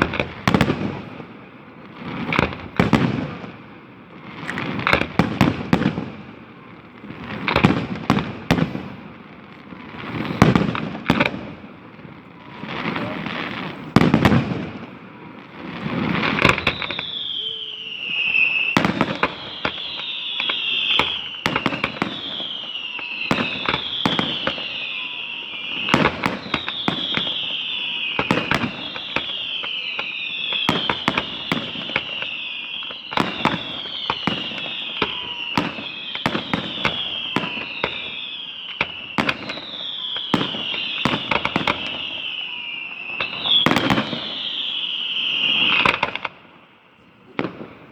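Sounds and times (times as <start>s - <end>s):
firework bangs and crackles: 0.0s - 47.9s
firework whistles gliding down: 0.0s - 47.9s.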